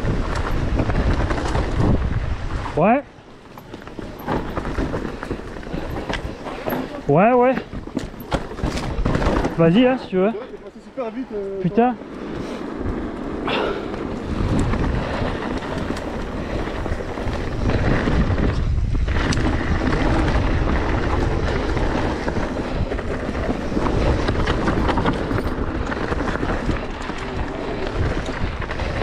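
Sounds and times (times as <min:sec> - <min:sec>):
bike knocking and clattering: 0:00.0 - 0:29.0
tyres rumbling on trail: 0:00.0 - 0:29.0
wind buffeting microphone: 0:00.0 - 0:29.0.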